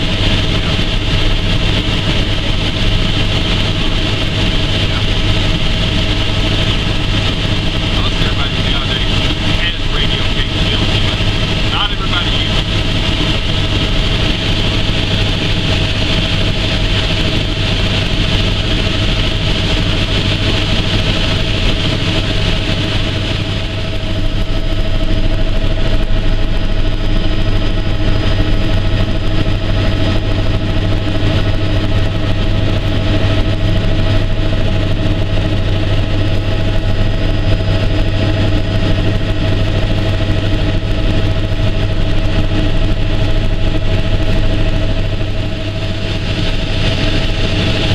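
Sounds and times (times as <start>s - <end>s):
helicopter engine and rotor droning: 0.0s - 47.9s.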